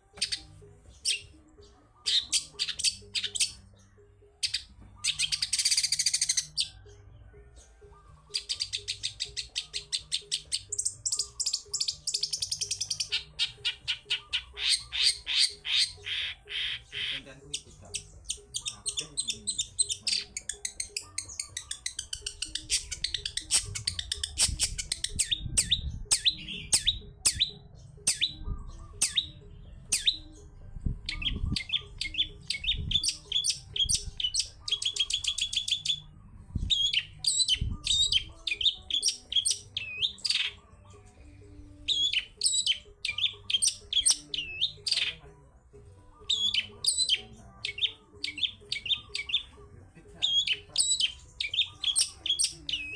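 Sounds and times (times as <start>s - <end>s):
bird singing chirps and trills: 0.0s - 52.9s.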